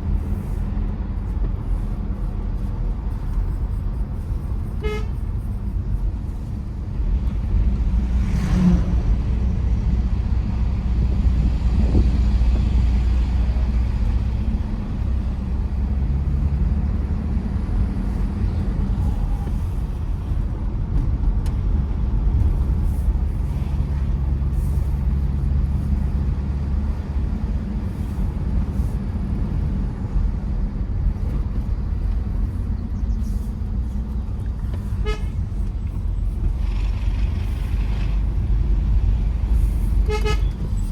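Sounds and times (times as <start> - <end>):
diesel engine and tyre rumble: 0.0 - 40.9.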